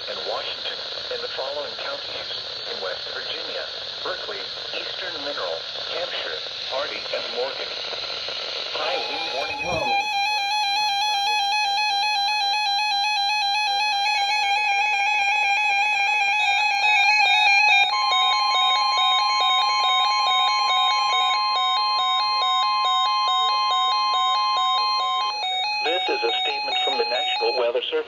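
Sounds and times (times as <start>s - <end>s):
steady warning alarm tone: 0.0s - 28.0s.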